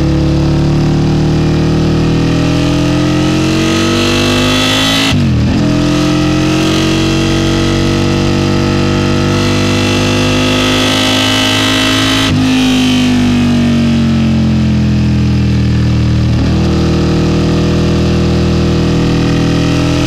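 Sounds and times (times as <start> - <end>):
motorcycle engine at full throttle: 0.0 - 20.0.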